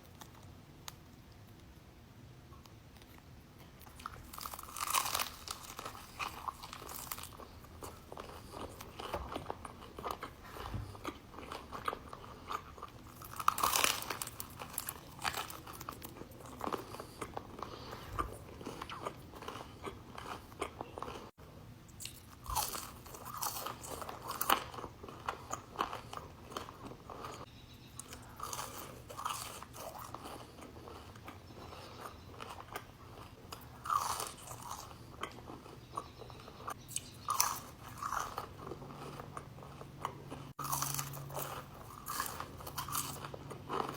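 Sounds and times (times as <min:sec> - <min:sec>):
crunchy food chewing: 0:02.6 - 0:43.9.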